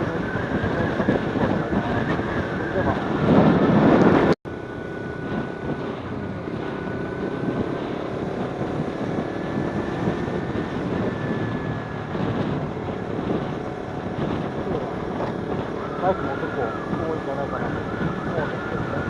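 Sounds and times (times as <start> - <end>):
motorcycle engine cruising: 0.0 - 19.0
wind noise on microphone: 0.0 - 19.0.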